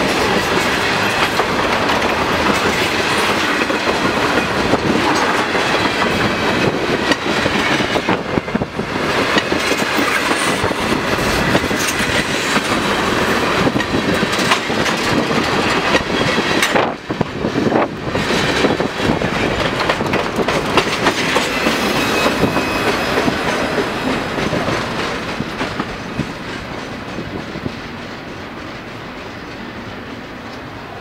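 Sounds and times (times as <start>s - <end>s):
wheels clicking over rail joints: 0.0s - 30.7s
freight train rolling past: 0.0s - 31.0s.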